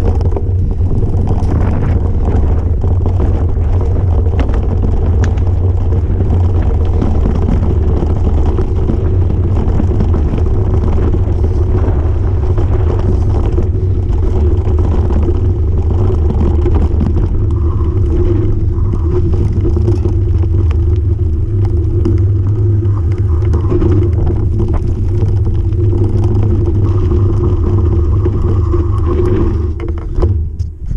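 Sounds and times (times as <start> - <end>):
mountain bike rattling on dirt trail: 0.0 - 30.6
wind rumble on microphone: 0.0 - 30.9.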